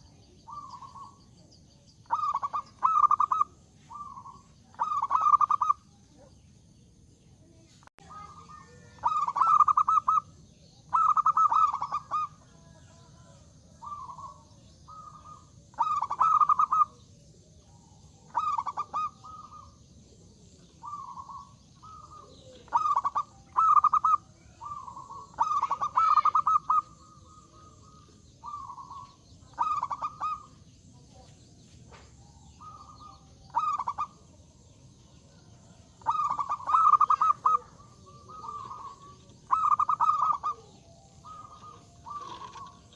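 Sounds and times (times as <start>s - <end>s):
dove cooing: 0.0s - 6.3s, 8.1s - 42.9s.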